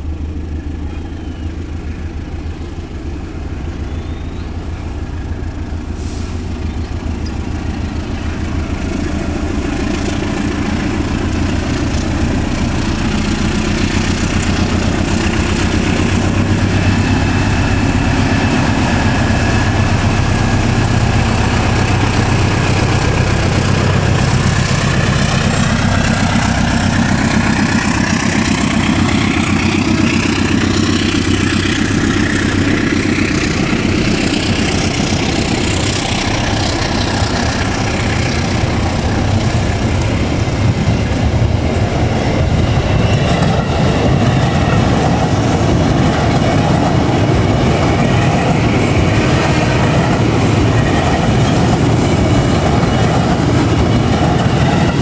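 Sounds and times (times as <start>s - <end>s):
locomotive engine hum: 0.0s - 55.0s.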